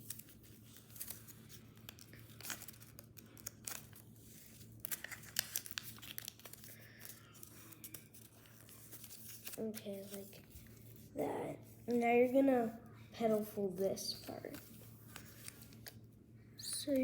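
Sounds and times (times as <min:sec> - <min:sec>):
paper rustling and crinkling: 0:00.0 - 0:11.1, 0:13.2 - 0:16.0.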